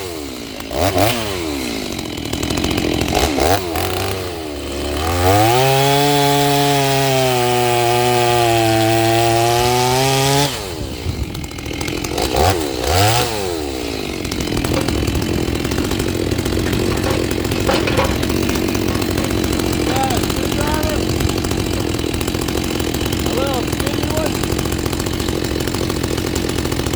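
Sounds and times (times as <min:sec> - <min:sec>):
chainsaw cutting log: 0:00.0 - 0:26.9
chainsaw idling: 0:00.0 - 0:26.9.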